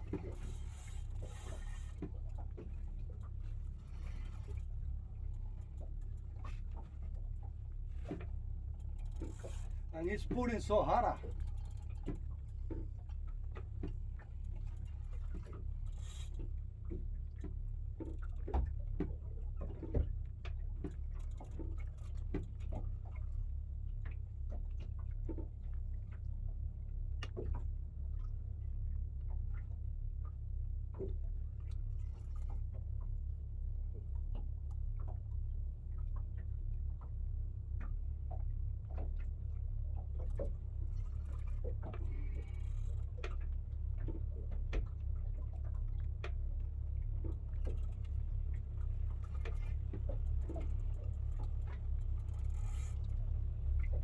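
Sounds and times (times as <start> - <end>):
low rumble: 0.0 - 21.8, 22.8 - 54.0.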